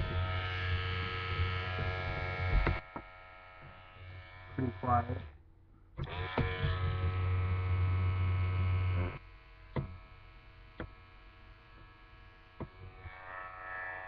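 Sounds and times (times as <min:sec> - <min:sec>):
electric trimmer buzzing: 0:00.0 - 0:05.3, 0:06.0 - 0:14.0.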